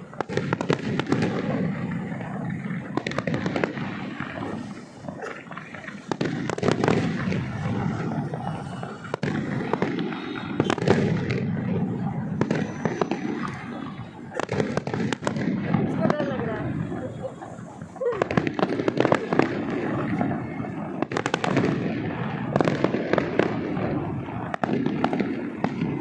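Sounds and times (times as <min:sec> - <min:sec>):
firework crackling: 0:00.0 - 0:26.0
fireworks bursting: 0:00.0 - 0:26.0
sharp firework bangs: 0:00.0 - 0:26.0.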